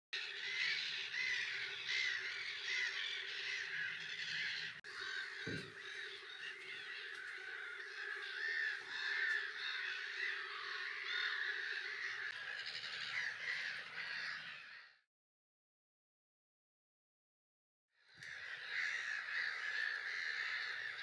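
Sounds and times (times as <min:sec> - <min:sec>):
gull colony calling: 0:00.2 - 0:15.0, 0:18.2 - 0:21.0.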